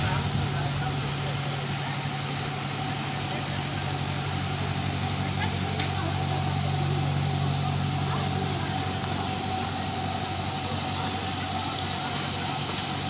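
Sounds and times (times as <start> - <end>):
engine hum with whine: 0.0 - 13.0.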